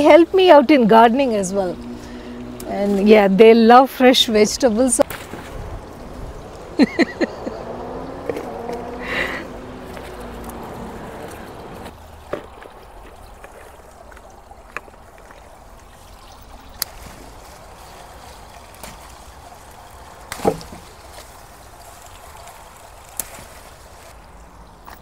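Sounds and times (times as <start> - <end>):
faint water trickle: 0.0 - 25.0.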